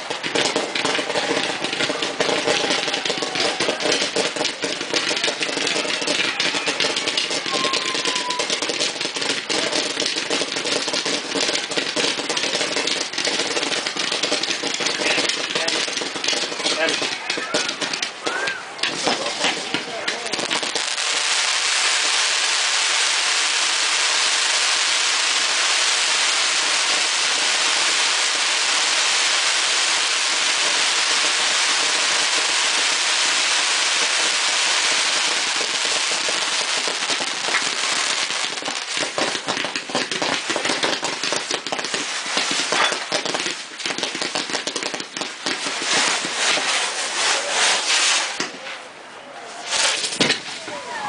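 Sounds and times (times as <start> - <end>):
fireworks crackling and popping: 0.0 - 48.9, 49.5 - 51.0.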